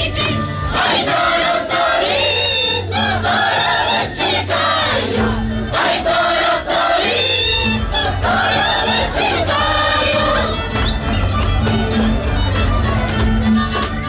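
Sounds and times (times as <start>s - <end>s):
group of voices singing: 0.0s - 11.4s.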